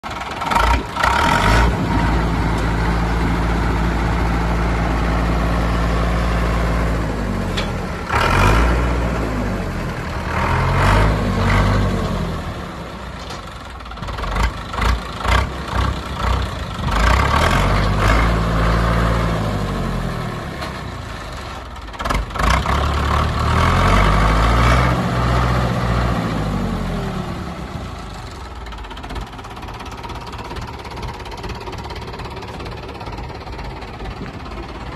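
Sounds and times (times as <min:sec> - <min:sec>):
tractor diesel engine revving: 0:00.0 - 0:34.9.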